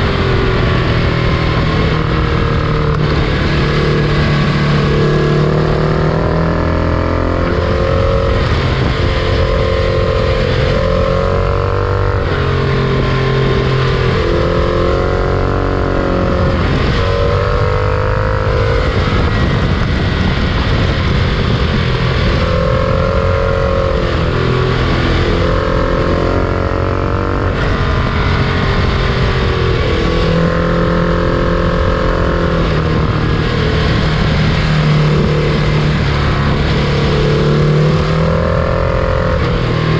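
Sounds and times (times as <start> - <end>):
diesel locomotive drone: 0.0 - 39.9.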